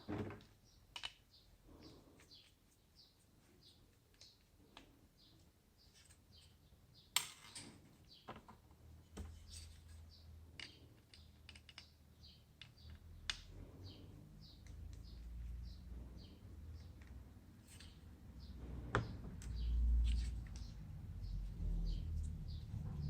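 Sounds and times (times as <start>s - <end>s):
small bird chirping: 0.6s - 8.3s, 9.4s - 23.0s.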